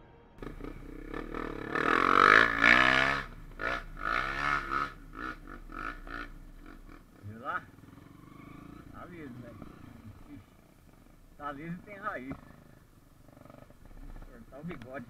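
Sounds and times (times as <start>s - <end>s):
dirt bike engine revving: 0.4s - 15.0s.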